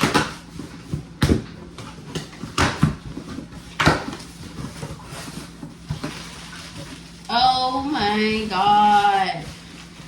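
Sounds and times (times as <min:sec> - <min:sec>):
cardboard rustling and tearing: 0:01.8 - 0:10.0.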